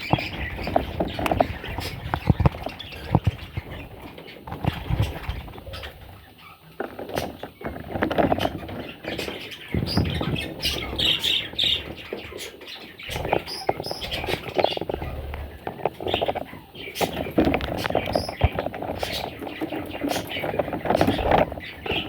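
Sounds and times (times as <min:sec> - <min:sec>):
chicks scrabbling and rustling: 0:00.0 - 0:22.0.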